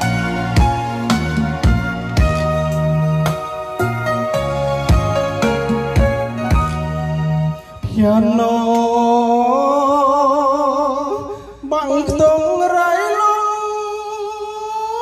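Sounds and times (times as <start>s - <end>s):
song through loudspeaker: 0.0s - 15.0s.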